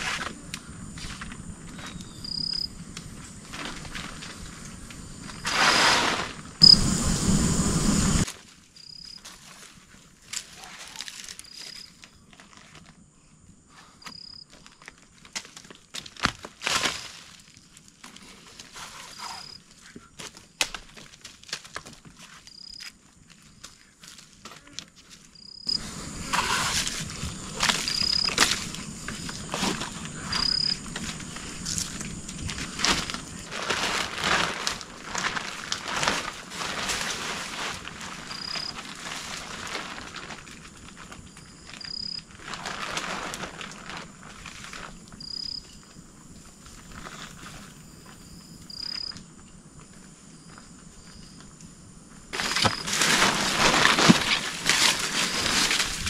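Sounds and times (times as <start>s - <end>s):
dry leaves and twigs rustling: 0.0s - 6.8s, 8.1s - 13.1s, 13.8s - 56.0s.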